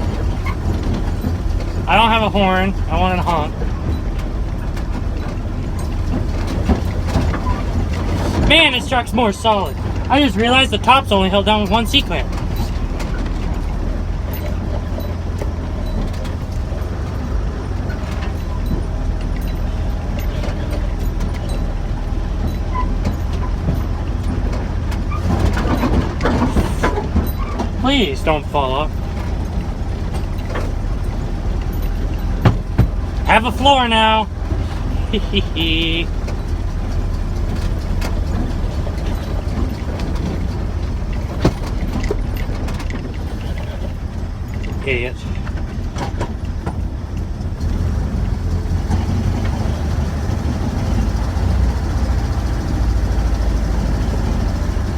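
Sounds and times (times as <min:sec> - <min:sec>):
body rattles and knocks: 0:00.0 - 0:54.9
engine and road rumble: 0:00.0 - 0:54.9.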